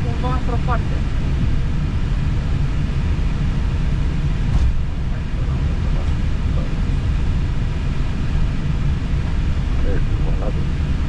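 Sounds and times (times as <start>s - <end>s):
airliner cockpit rumble: 0.0s - 11.0s.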